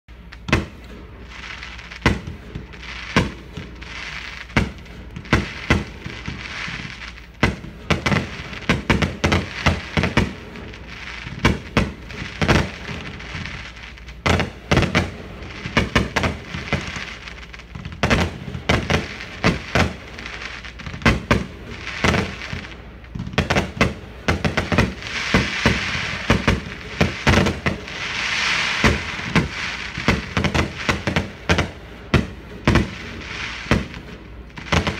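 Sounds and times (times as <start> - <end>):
fireworks crackling: 0.1 - 34.9.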